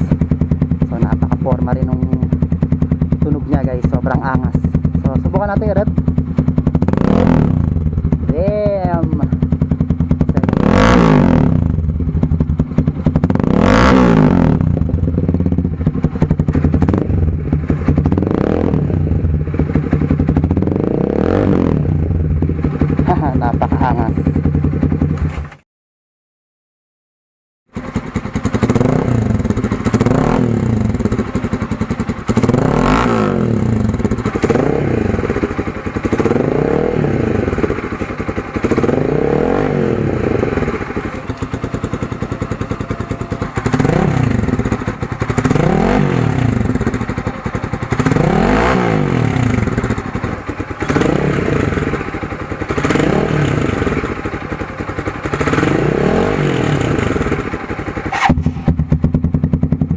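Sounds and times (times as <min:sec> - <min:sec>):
motorcycle engine revving: 0:00.0 - 0:25.6, 0:27.7 - 0:59.9.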